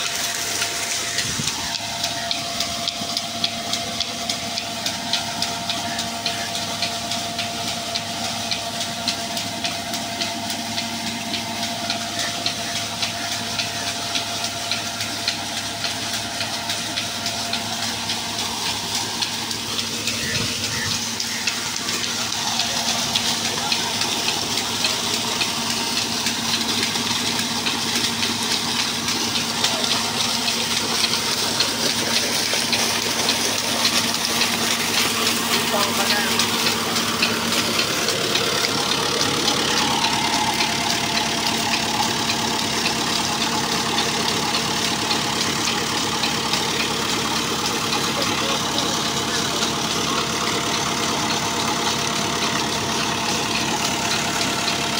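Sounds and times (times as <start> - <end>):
faint tractor and pump hum: 0.0 - 54.9.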